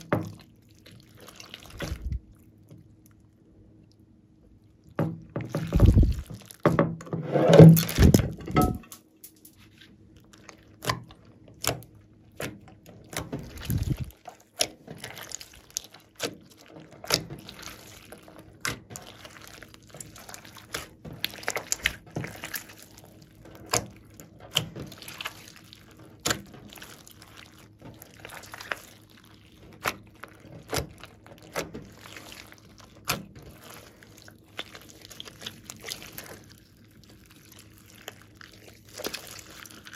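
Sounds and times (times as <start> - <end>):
slime squishing and squelching: 0.0 - 8.8, 9.6 - 39.9.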